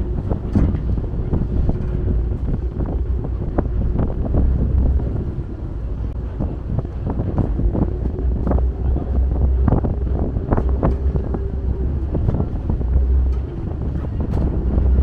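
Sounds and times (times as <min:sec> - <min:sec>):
ferry engines droning: 0:00.0 - 0:15.0
wind buffeting microphone: 0:00.0 - 0:15.0.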